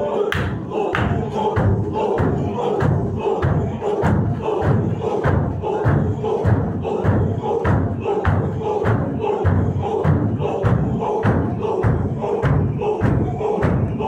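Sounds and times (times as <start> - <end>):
men chanting together: 0.0 - 14.0.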